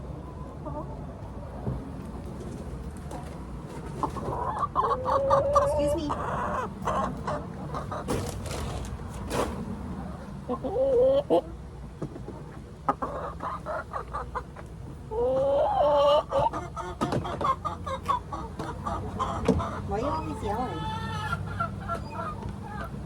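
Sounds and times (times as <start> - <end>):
hens clucking: 0.2 - 23.0.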